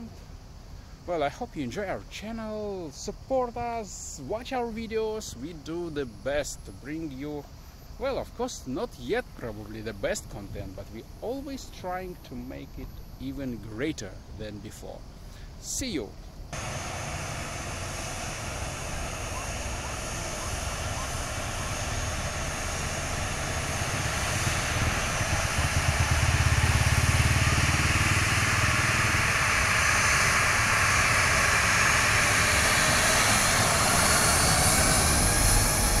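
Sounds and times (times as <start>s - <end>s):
jet engines at taxi power: 0.0s - 36.0s.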